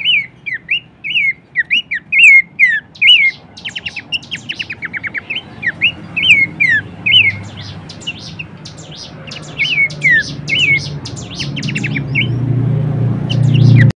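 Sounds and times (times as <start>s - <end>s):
high bird chips: 0.0s - 12.3s
bird whistled notes: 0.0s - 12.4s, 13.3s - 13.9s.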